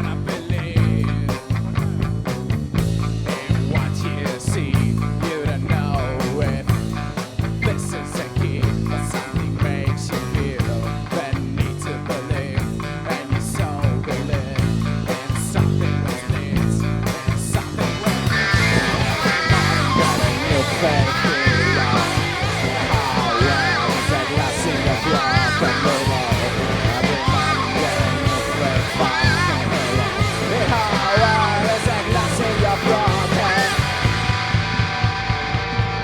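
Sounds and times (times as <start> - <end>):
instrumental rock music: 0.0 - 36.0.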